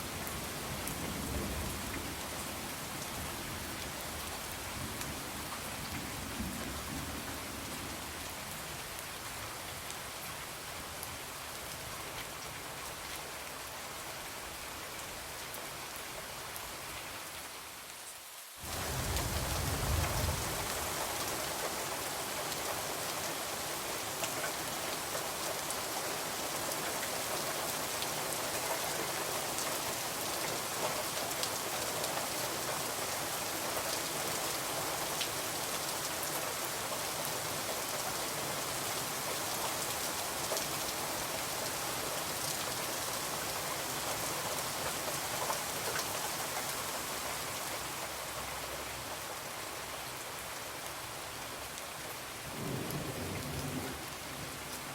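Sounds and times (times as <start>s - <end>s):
rain on a window: 0.0s - 54.9s.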